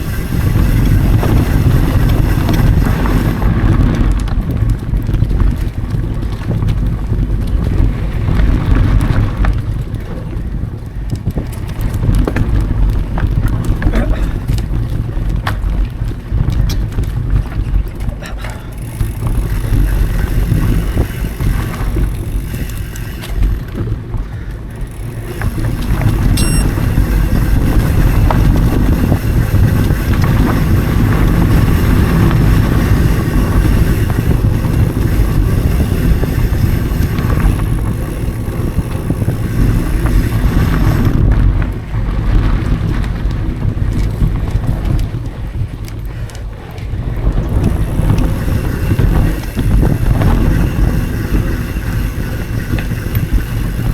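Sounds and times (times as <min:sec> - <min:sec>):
bike rattling: 0:00.0 - 0:53.9
bike tyre rumble on dirt: 0:00.0 - 0:53.9
wind noise on microphone: 0:00.0 - 0:53.9.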